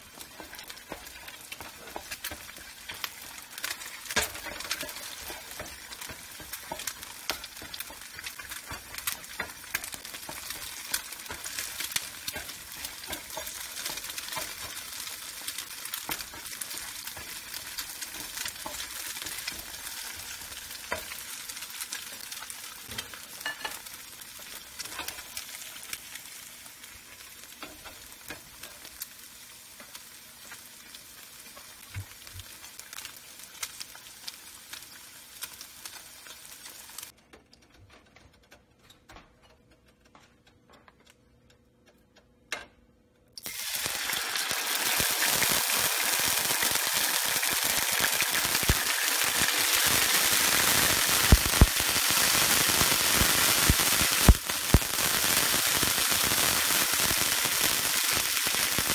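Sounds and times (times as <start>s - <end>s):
eggs sizzling in a frying pan: 0.0s - 37.2s, 43.4s - 58.9s.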